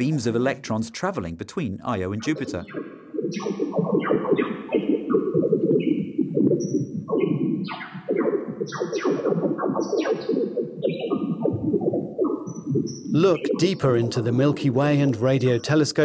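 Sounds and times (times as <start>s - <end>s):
dense radio crackle: 2.1s - 16.0s
bird-like chirps: 2.2s - 11.6s, 12.2s - 15.8s.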